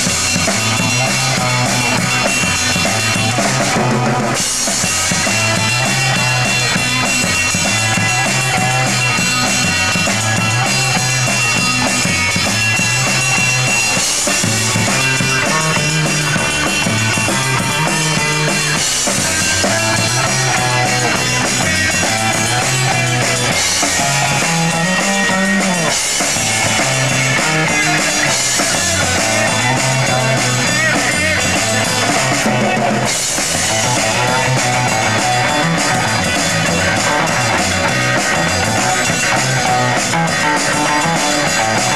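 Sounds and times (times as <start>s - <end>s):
bass line: 0.0s - 41.9s
drum kit: 0.0s - 41.9s
electric guitars: 0.0s - 41.9s.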